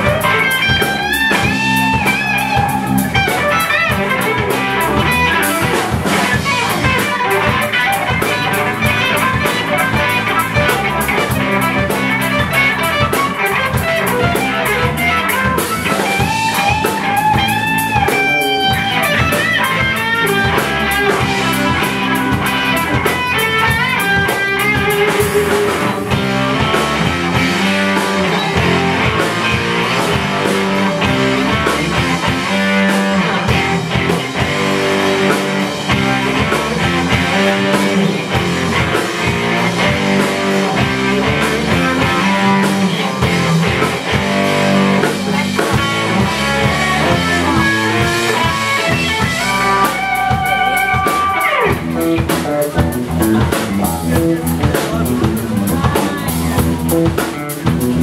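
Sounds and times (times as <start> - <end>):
drum kit with cymbals: 0.0 - 58.0
electric bass: 0.0 - 58.0
electric guitar lead line: 0.0 - 58.0.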